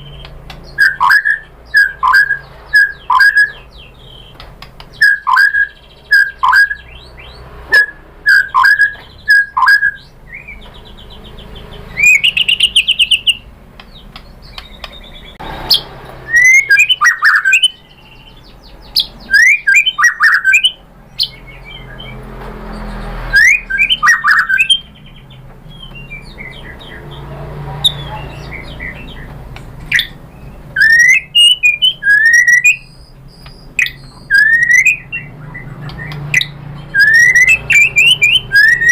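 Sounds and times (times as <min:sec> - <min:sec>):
songbird whistles and trills: 0:00.0 - 0:38.9.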